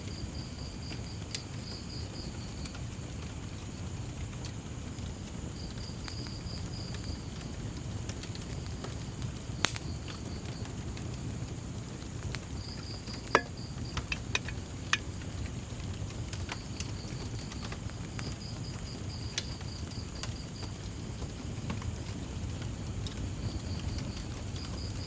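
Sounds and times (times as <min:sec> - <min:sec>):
crickets chirping: 0:00.1 - 0:25.0
wood fire crackling and popping: 0:00.1 - 0:25.0.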